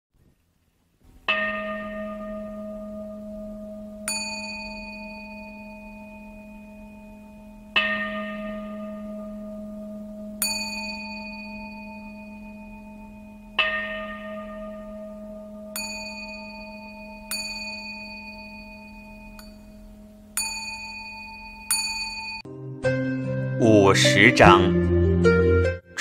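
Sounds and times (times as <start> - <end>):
steady low hum: 1.2 - 22.4
bells ringing: 1.3 - 22.5.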